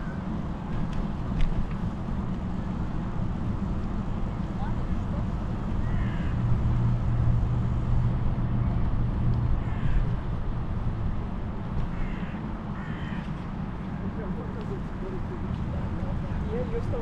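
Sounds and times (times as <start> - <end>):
bicycle rolling on pavement: 0.0 - 17.0.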